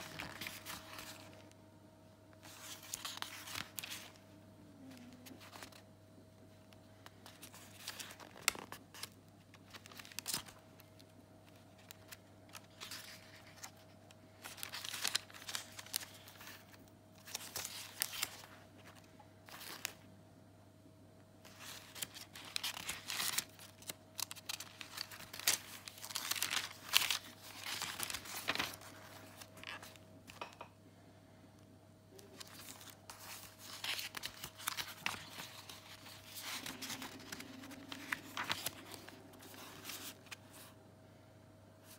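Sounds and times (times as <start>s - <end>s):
paper pages rustling: 0.0s - 1.6s, 2.4s - 5.8s, 6.5s - 20.0s, 21.4s - 30.4s, 32.2s - 40.8s.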